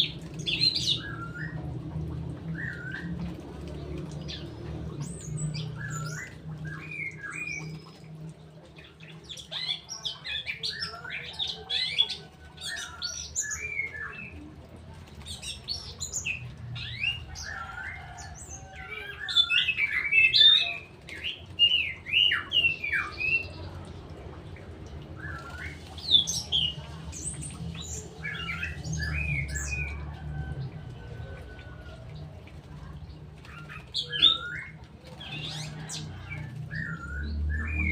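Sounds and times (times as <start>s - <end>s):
songbirds chirping and whistling: 0.0s - 37.9s.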